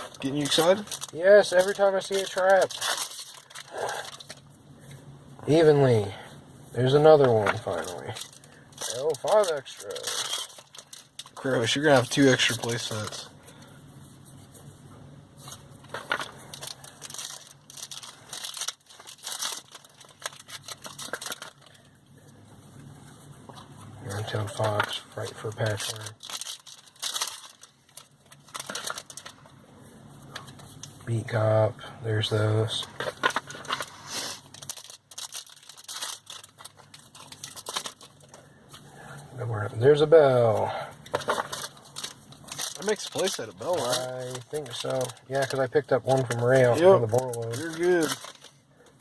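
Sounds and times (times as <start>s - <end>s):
foil wrappers crinkling and tearing: 0.0s - 6.2s, 6.8s - 13.7s, 15.4s - 22.0s, 23.5s - 29.6s, 30.2s - 39.0s, 39.8s - 49.0s.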